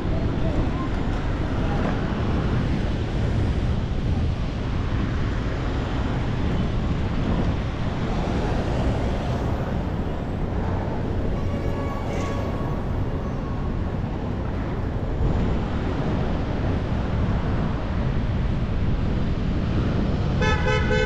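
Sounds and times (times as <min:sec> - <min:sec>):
city street traffic rumble: 0:00.0 - 0:21.0
wind on microphone: 0:00.0 - 0:21.0.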